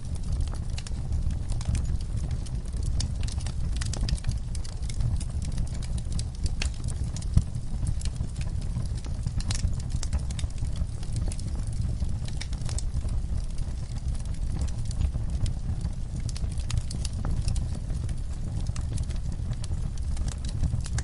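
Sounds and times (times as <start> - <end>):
fire crackling in a fireplace: 0.0 - 21.0.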